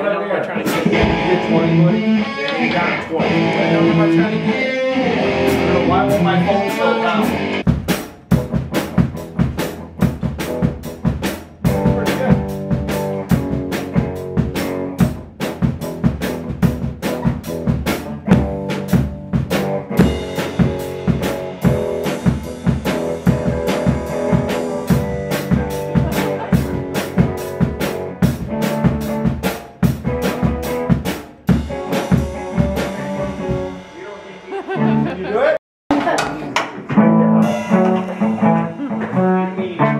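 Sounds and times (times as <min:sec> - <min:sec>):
guitar music: 0:00.5 - 0:07.7, 0:08.3 - 0:35.5, 0:36.7 - 0:39.9
drum kit playing: 0:00.6 - 0:39.9.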